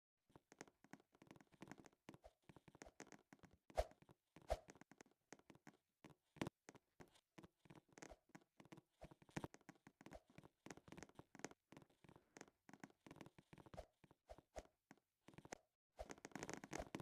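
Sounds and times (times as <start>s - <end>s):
faint irregular clicks and taps: 0.3s - 17.0s.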